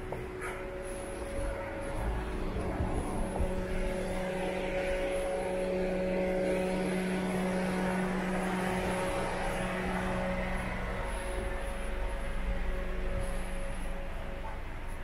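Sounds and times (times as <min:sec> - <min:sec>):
noisy rush: 0:00.0 - 0:15.0
steady engine drone: 0:00.0 - 0:15.0.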